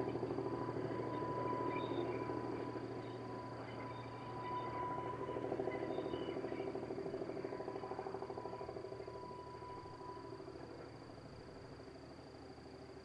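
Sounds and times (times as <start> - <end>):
distant railcar engine drone: 0.0 - 13.0.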